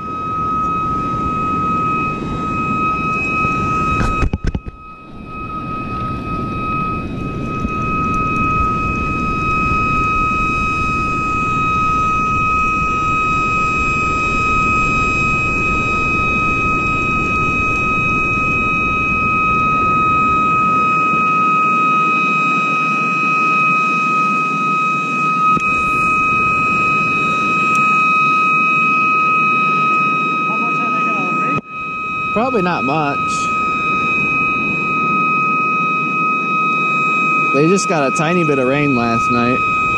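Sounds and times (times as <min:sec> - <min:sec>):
high-pitched whine: 0:00.0 - 0:39.9.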